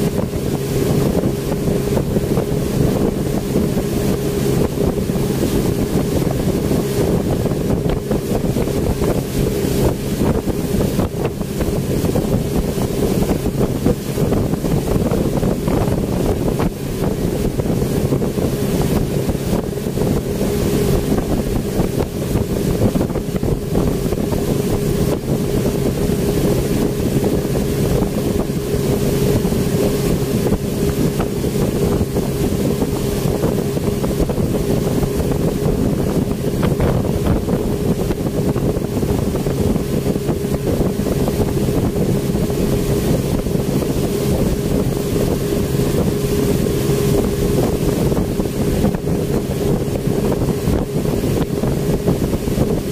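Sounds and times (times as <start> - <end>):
speedboat engine droning: 0.0 - 52.9
wind buffeting microphone: 0.0 - 52.9.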